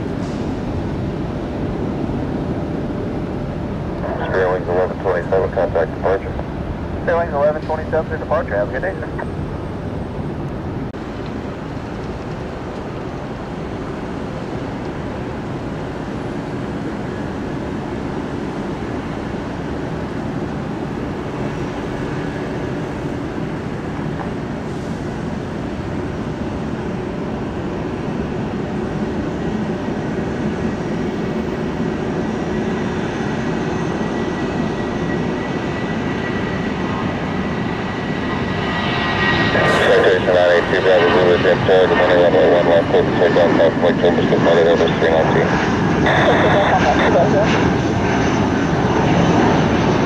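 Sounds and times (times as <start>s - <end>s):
high jet whine: 0.0s - 50.0s
jet engines roaring: 0.0s - 50.0s.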